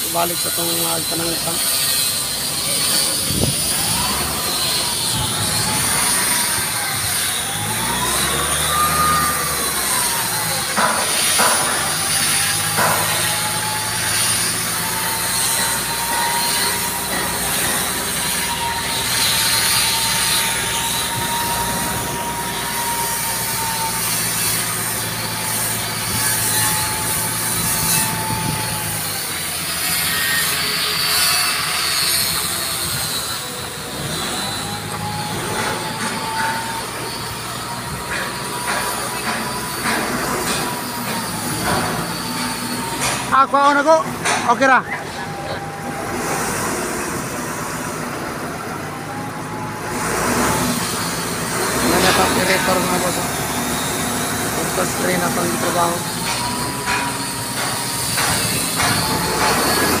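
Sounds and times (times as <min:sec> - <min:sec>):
crane engine hum: 0:00.0 - 1:00.0.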